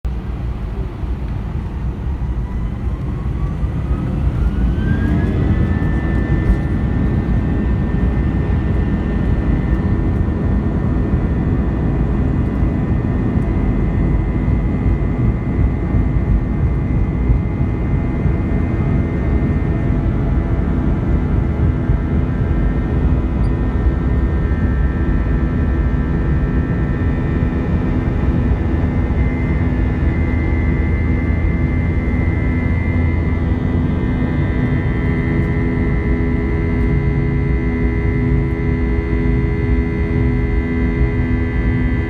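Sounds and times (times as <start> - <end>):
jet engine whine: 0.0 - 42.0
loud engine rumble in cabin: 0.0 - 42.0.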